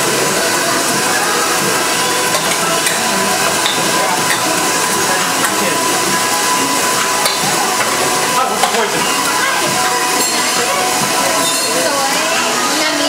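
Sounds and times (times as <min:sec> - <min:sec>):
stand mixers whirring: 0:00.0 - 0:13.0.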